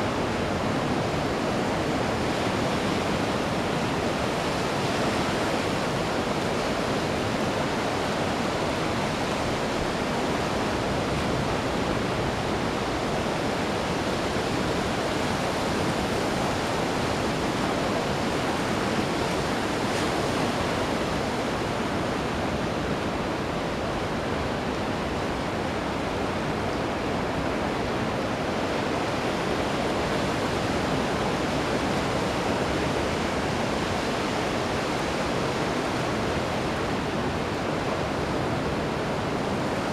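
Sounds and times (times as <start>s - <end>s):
ocean surf on a beach: 0.0s - 39.9s.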